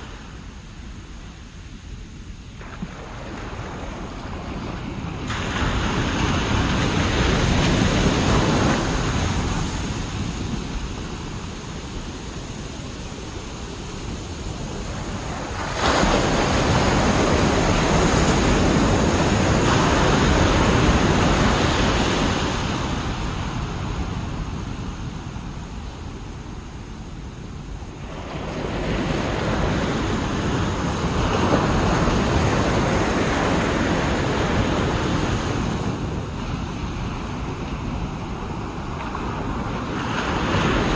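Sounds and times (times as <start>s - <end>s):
ocean waves breaking on beach: 0.0s - 40.9s
wind buffeting microphone: 0.0s - 40.9s.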